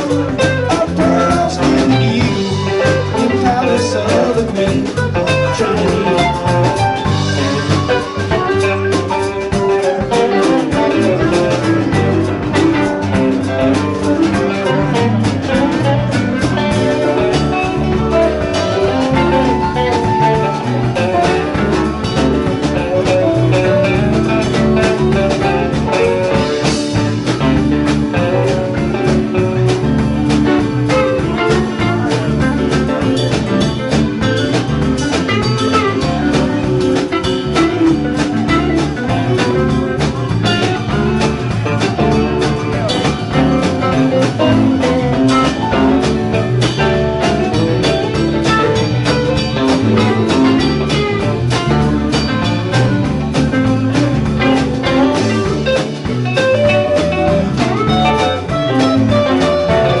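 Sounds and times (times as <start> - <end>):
live rock band playing: 0.0 - 60.0.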